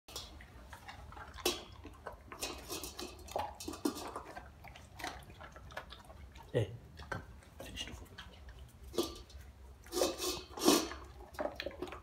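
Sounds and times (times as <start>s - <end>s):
dog crunching dry kibble: 0.1s - 12.0s.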